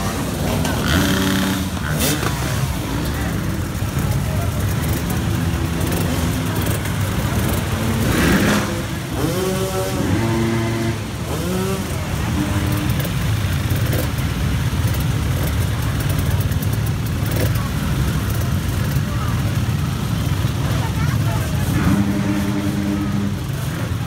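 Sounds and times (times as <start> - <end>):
dirt bike engines rumbling: 0.0 - 24.0
voices calling out: 0.0 - 24.0.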